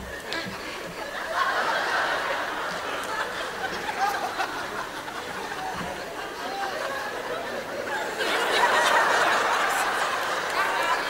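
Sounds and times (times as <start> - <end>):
audience laughing: 0.1 - 11.0.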